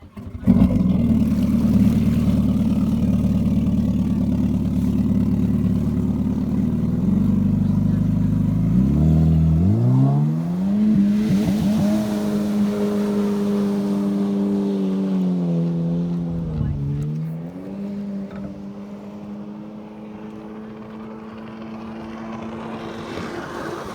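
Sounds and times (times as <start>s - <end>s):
jet ski engine revving: 0.0s - 23.9s.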